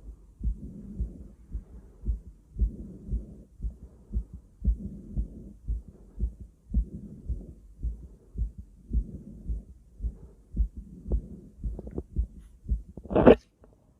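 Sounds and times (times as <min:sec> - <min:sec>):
soft breath sounds: 0:00.0 - 0:13.1
heartbeat through stethoscope: 0:00.0 - 0:13.4.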